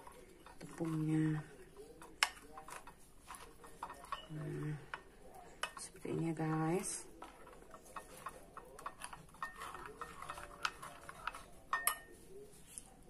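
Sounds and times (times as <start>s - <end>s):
spoon clinking against bowl: 0.0s - 12.4s
spoon stirring batter in bowl: 0.0s - 13.0s.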